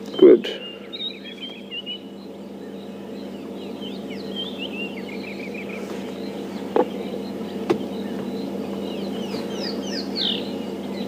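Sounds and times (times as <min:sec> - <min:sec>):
steady low hum: 0:00.0 - 0:11.0
wild birds chirping: 0:00.0 - 0:11.0.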